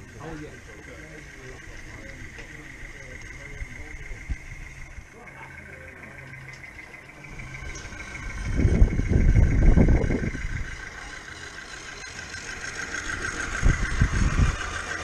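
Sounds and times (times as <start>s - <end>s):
heavy low rumbles: 0.0s - 15.0s
model locomotive whirring: 0.0s - 15.0s.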